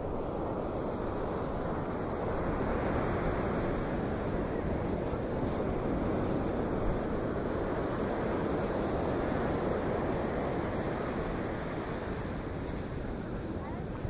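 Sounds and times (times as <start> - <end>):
storm wind: 0.0 - 14.0
wind buffeting the microphone: 0.0 - 14.0.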